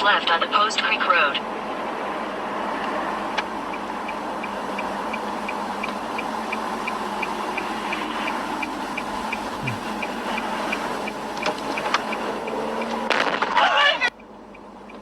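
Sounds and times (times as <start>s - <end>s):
road and engine noise: 0.0s - 15.0s
turn signal ticking: 2.2s - 15.0s.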